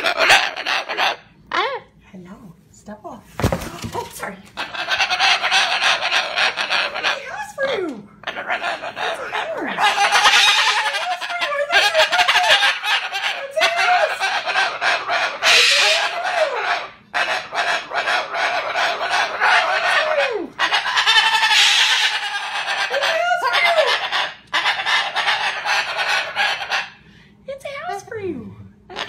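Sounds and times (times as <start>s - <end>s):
cockatoo harsh raspy calls: 0.0s - 1.8s, 4.6s - 27.1s.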